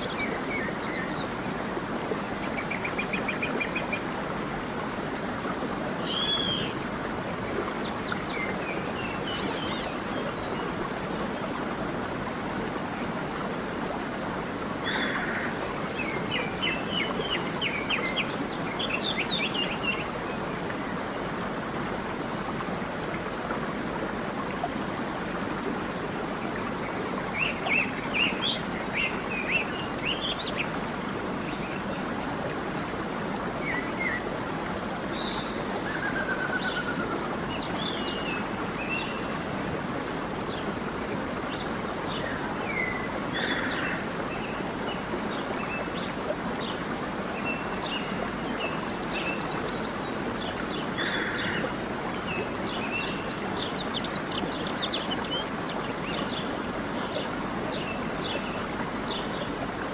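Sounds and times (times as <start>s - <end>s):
stream running: 0.0s - 59.9s.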